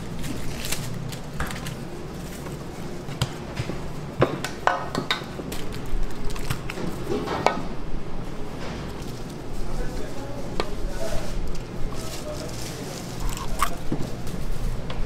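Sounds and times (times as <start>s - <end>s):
kitchen machine hum: 0.0s - 15.0s.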